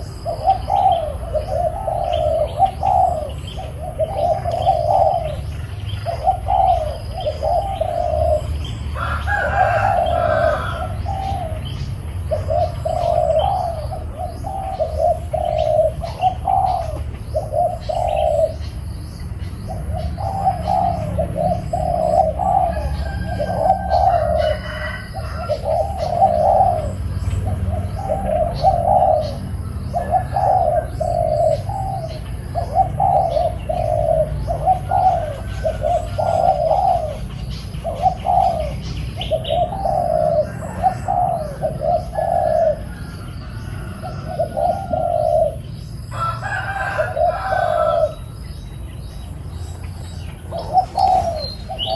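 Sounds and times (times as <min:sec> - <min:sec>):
dove cooing: 0:00.0 - 0:51.9
small birds chirping: 0:00.0 - 0:51.9.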